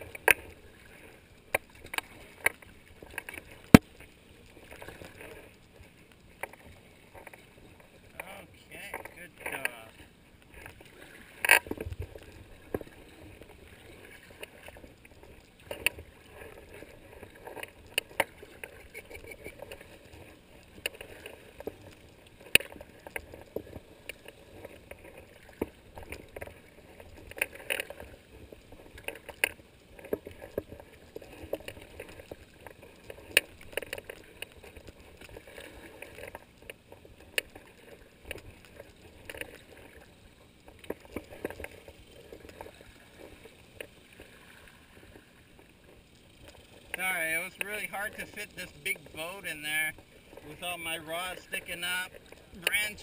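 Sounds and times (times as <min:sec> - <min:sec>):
paddle strokes splashing water: 0:00.0 - 0:53.0.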